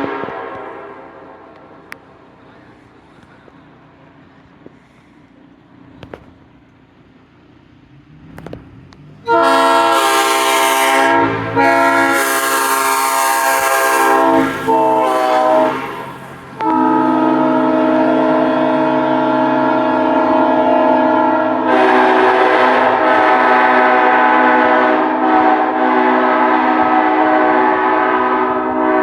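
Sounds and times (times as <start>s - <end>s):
locomotive air horn blasts: 0.0s - 3.5s, 9.2s - 29.0s.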